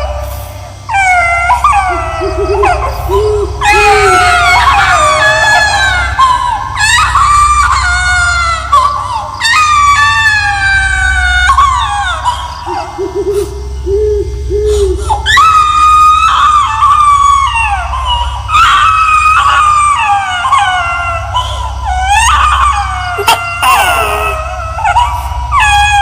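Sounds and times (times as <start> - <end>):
ghostly baby wailing: 0.0 - 26.0
steady low drone: 0.0 - 26.0.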